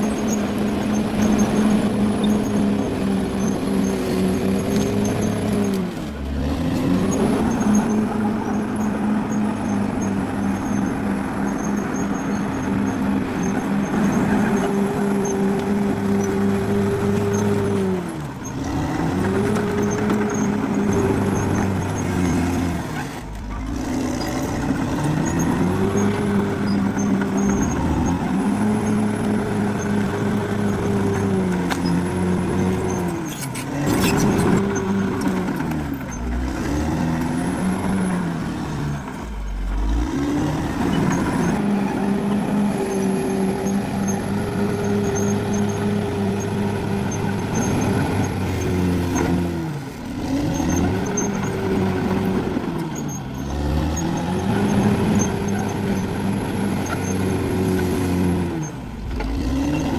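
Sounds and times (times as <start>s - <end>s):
bulldozer diesel engine labouring: 0.0s - 59.9s.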